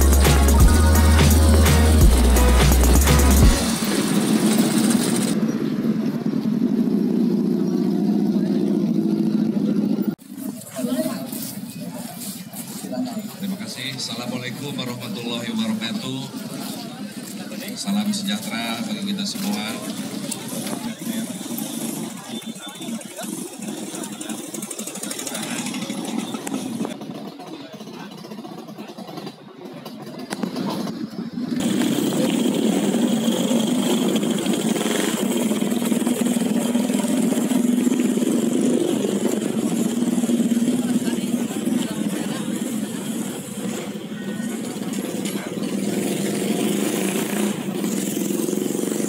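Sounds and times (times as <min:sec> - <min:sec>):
motorcycle engines idling and revving: 0:00.0 - 0:49.0.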